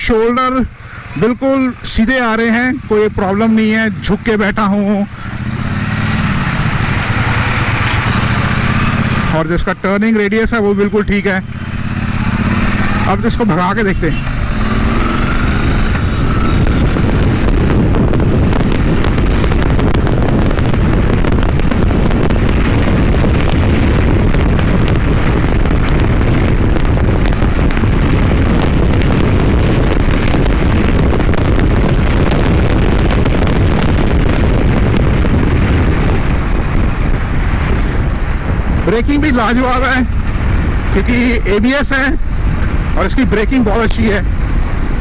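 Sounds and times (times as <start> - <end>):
wind buffeting microphone: 0.0 - 45.0
motorcycle engine running: 2.4 - 9.8, 10.8 - 41.4.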